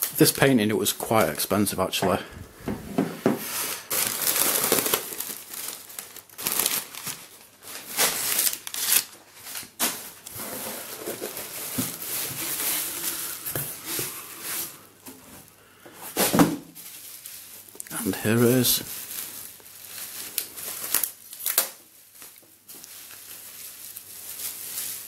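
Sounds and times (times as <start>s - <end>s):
packing paper rustling: 2.4s - 25.0s
bubble wrap crinkling: 3.4s - 25.0s.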